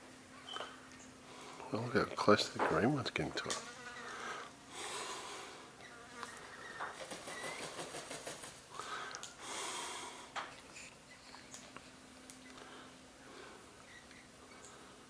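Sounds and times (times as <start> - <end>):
birds chirping: 0.2 - 8.1, 10.4 - 15.0.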